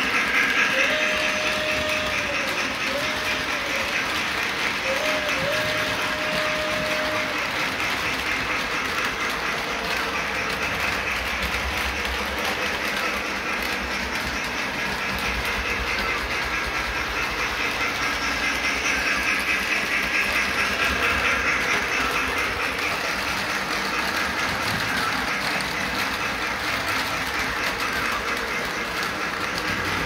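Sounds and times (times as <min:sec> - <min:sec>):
model train wheels rattling: 0:00.0 - 0:30.0.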